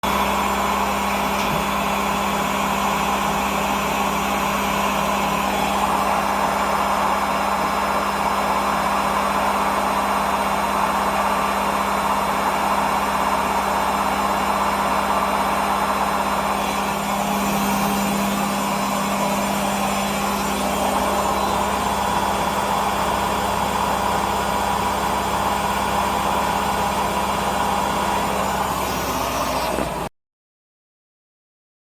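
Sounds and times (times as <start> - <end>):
washing machine spinning: 0.0 - 30.1.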